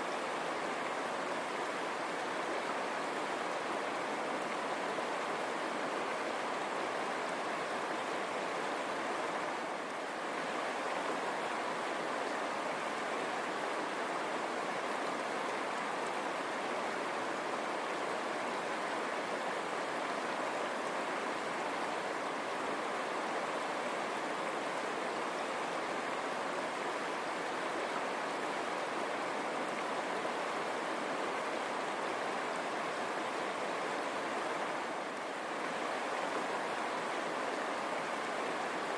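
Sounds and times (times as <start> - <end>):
river running over stones: 0.0 - 38.9.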